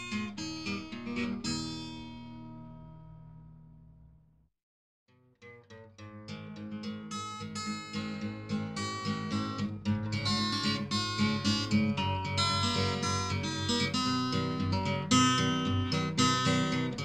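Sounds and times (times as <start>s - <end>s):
acoustic guitar plucked and strummed: 0.0s - 4.1s, 5.1s - 17.0s.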